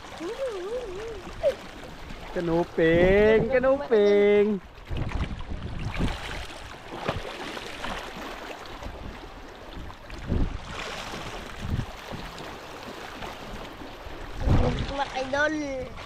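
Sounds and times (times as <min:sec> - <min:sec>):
sea water sloshing: 0:00.0 - 0:16.0
wind: 0:00.0 - 0:16.0.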